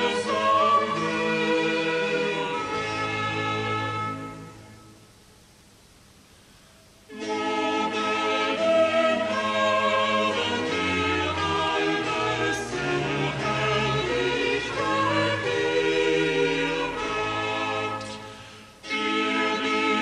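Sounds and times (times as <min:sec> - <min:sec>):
choir singing: 0:00.0 - 0:04.6, 0:07.1 - 0:20.0.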